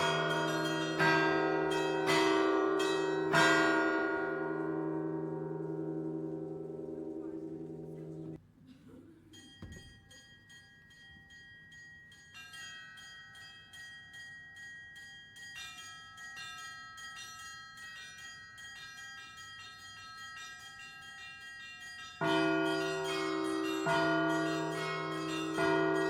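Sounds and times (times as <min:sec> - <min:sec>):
deep heavy bells: 0:00.0 - 0:08.4, 0:11.0 - 0:26.0
small high bells ringing: 0:00.0 - 0:08.4, 0:09.3 - 0:26.0.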